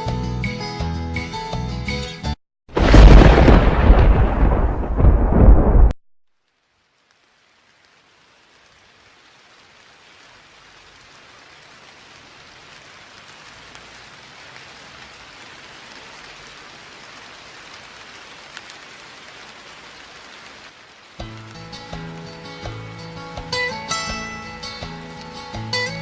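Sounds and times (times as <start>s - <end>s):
steady rain falling: 2.7s - 26.0s.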